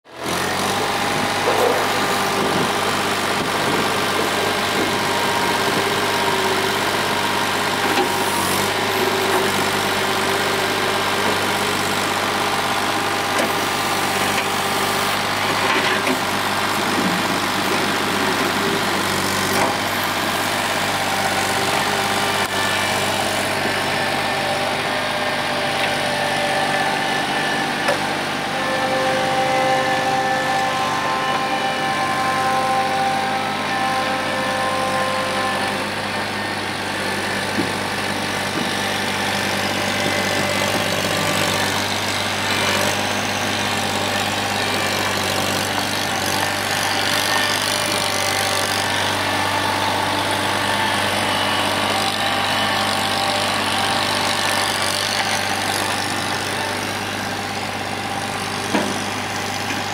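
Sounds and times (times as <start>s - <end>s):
mini skid steer engine running: 0.0s - 59.9s.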